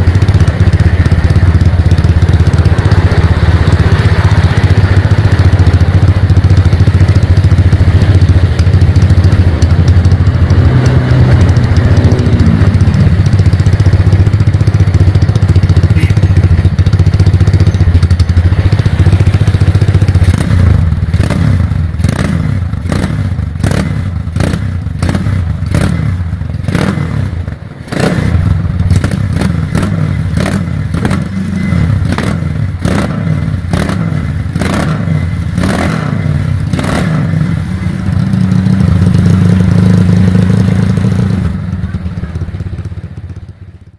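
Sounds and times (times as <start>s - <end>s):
exhaust blips and cracks: 0.0s - 43.9s
motorcycle engine deep exhaust note: 0.0s - 43.9s.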